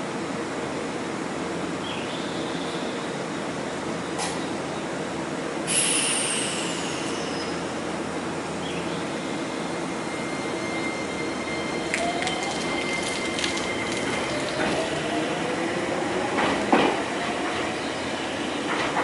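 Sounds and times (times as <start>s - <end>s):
train equipment humming: 0.0s - 19.0s.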